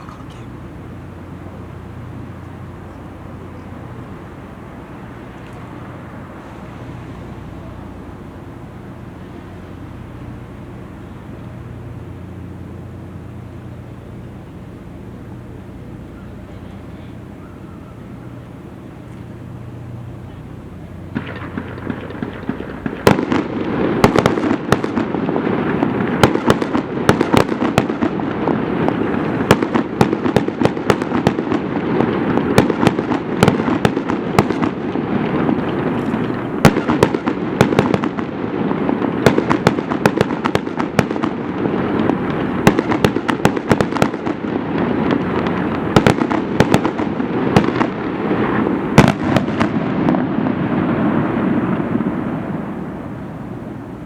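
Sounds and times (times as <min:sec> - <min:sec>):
fireworks bursting and crackling: 0:00.0 - 0:17.4, 0:18.0 - 0:54.0
fireworks rumble: 0:00.0 - 0:54.0.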